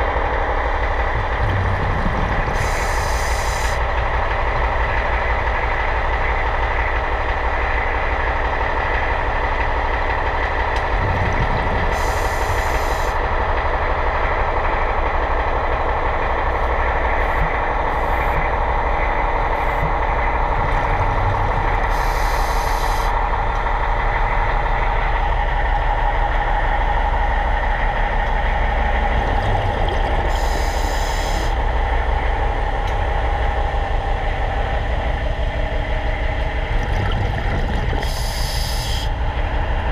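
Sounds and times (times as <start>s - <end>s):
low rumble: 0.0s - 39.9s
underwater machine hum: 0.0s - 39.9s.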